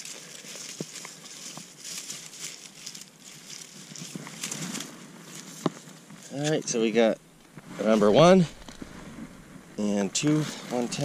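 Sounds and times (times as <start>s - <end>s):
reeds and snow rustling on waders: 0.0s - 11.0s.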